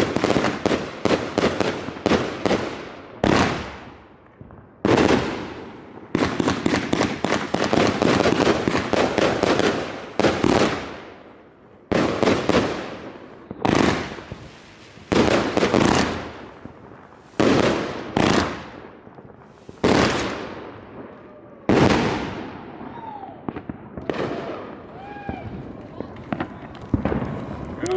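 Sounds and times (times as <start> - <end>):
firework booms: 0.0 - 27.9
firework cracking shots: 0.0 - 27.9.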